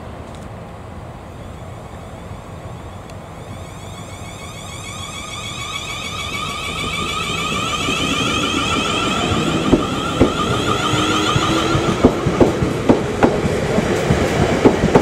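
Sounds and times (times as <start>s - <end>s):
electric train inverter whine: 0.0s - 15.0s
train wheels clicking over rail joints: 2.7s - 15.0s.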